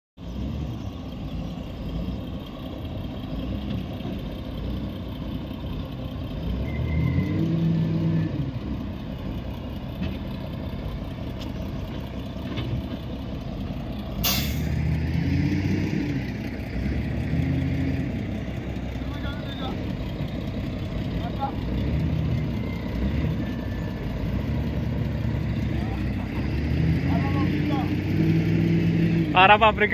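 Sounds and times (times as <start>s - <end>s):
truck diesel engine revving: 0.2s - 29.9s.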